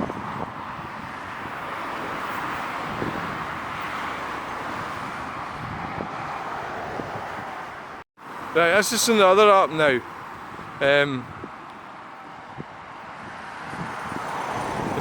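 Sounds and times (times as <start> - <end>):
wind on microphone: 0.0 - 8.0, 10.0 - 15.0
road traffic passing: 0.0 - 15.0.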